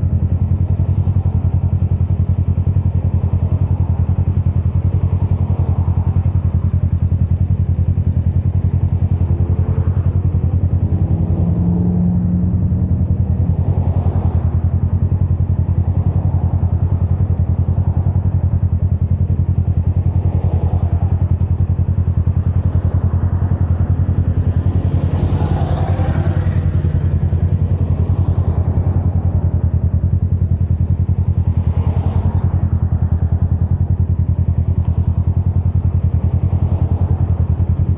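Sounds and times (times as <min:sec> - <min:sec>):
motorcycle engine idling: 0:00.0 - 0:37.9
vehicles passing: 0:00.0 - 0:37.9.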